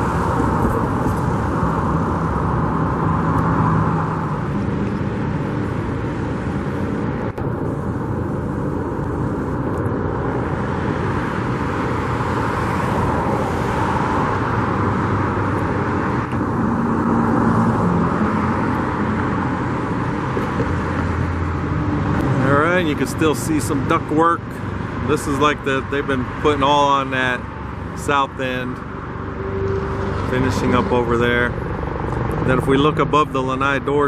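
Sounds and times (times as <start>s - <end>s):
cars passing on road: 0.0s - 34.0s.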